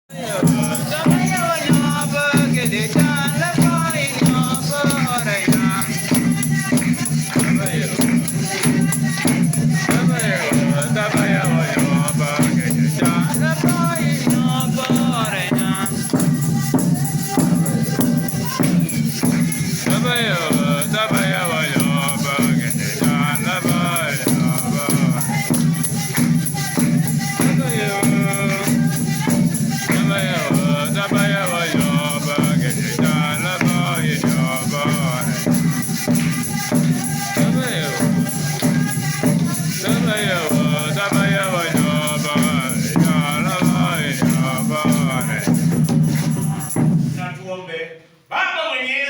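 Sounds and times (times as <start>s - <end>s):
group singing worship song: 0.1s - 47.3s
shaker rhythm: 0.1s - 47.4s.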